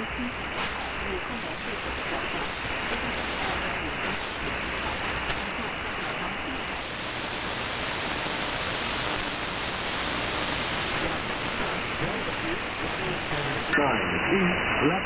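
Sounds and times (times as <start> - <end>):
radio hiss and static: 0.0 - 15.0.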